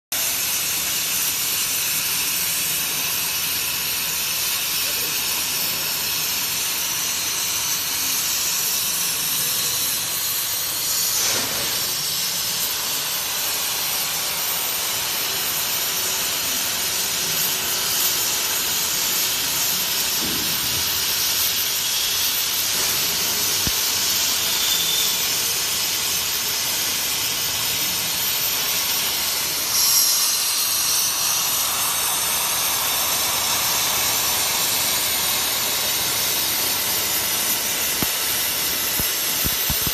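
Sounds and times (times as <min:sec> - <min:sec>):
cutting torch hissing: 0:00.2 - 0:39.9.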